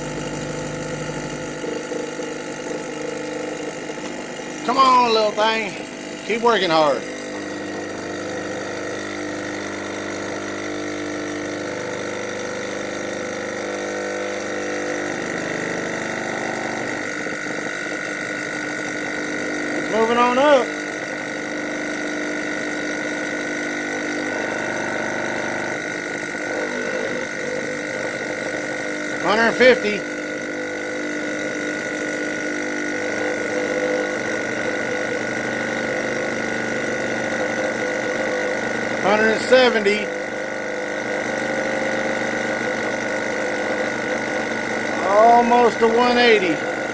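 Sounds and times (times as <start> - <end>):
air compressor humming: 0.0 - 46.9.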